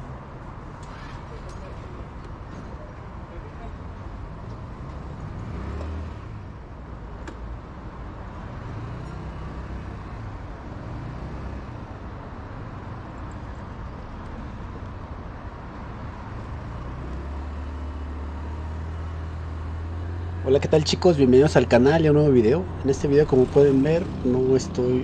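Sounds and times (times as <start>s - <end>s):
road and traffic noise: 0.0s - 25.0s.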